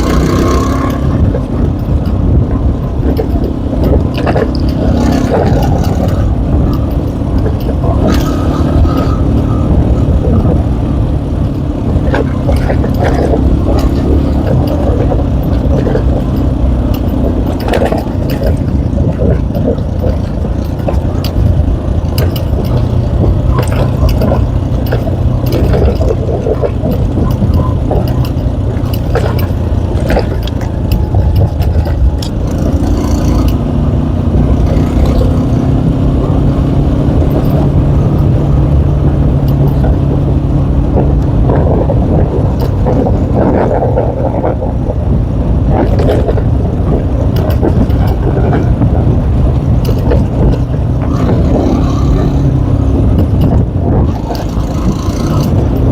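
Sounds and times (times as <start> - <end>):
knocks and rattles: 0.0 - 55.9
motorcycle engine running: 0.0 - 55.9.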